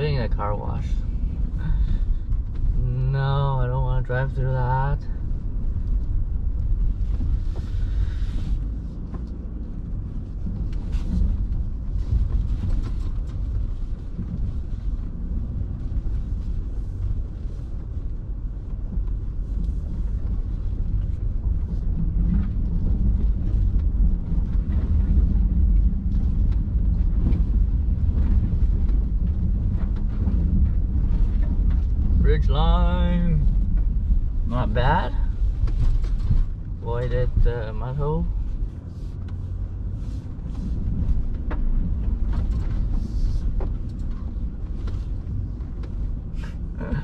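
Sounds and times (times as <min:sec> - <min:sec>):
truck driving low rumble: 0:00.0 - 0:47.0.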